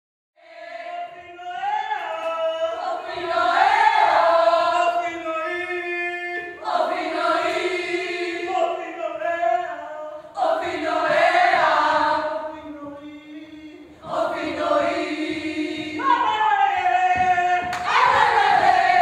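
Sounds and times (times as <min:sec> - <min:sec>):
women singing together: 0:00.4 - 0:09.0, 0:10.3 - 0:19.0.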